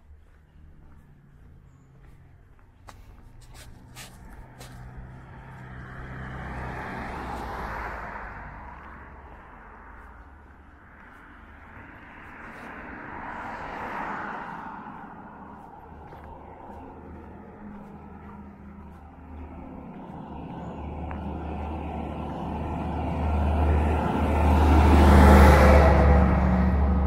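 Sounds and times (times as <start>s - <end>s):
cars passing: 0.0s - 27.0s.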